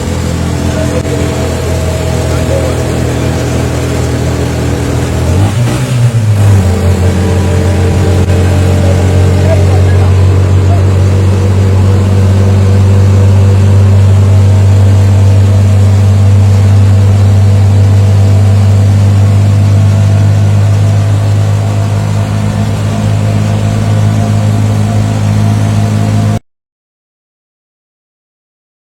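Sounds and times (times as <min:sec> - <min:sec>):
vehicle engine running: 0:00.0 - 0:26.4.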